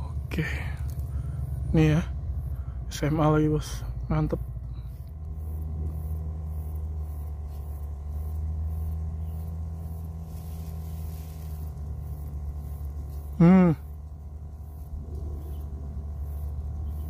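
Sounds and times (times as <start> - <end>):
faint high pulsing: 0.0 - 17.0
low mechanical hum: 0.0 - 17.0.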